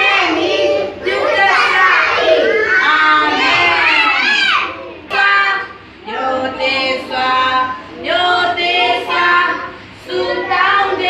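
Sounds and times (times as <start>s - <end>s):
woman and children singing: 0.0s - 11.0s.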